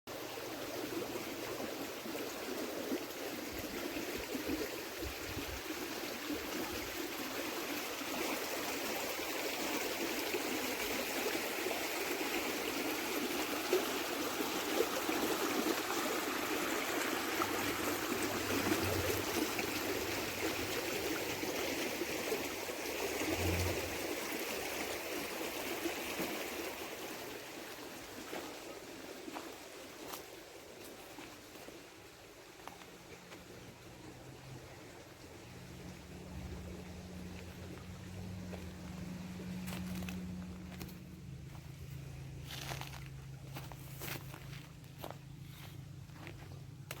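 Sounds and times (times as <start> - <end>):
river water flowing: 0.1 - 47.0.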